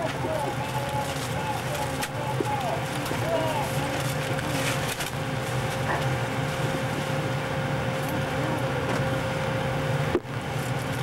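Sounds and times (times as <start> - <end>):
machinery and ventilation hum: 0.0 - 11.0
thin steady whine: 0.0 - 11.0.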